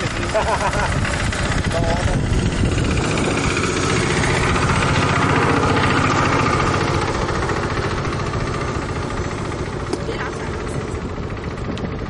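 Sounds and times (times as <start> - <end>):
model plane motor whine: 0.0 - 12.0
wind buffeting microphone: 0.0 - 12.0.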